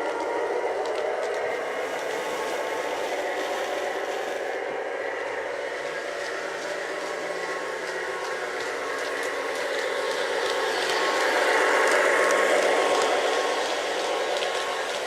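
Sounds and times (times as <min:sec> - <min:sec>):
model train motor whir: 0:00.0 - 0:15.0.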